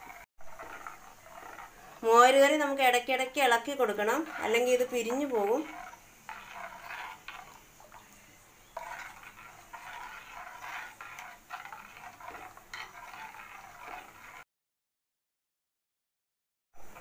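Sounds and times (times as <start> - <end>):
metal spoon scraping clay pot: 0.0 - 14.5.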